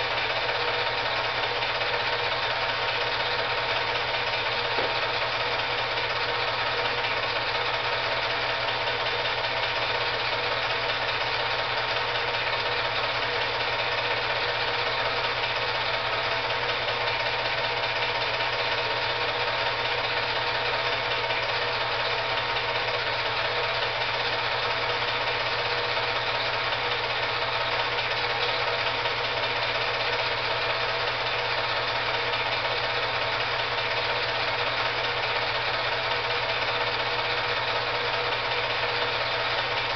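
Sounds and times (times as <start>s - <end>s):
film projector whirring and clattering: 0.0s - 39.9s.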